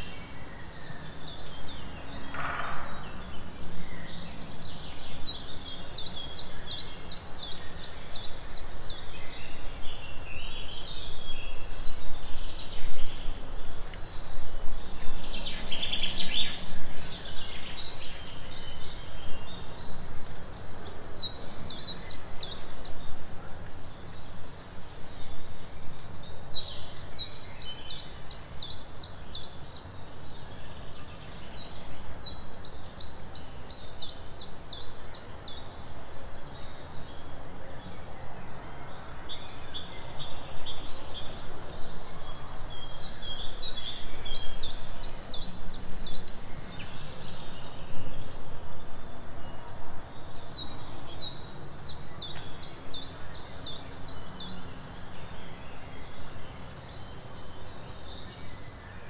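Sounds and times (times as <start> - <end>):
birds calling softly: 0.0 - 59.0
songbird singing: 0.0 - 59.0.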